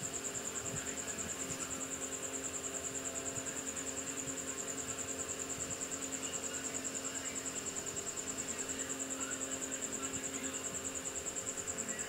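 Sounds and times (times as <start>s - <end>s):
fan hum with pulsing whine: 0.0s - 12.0s.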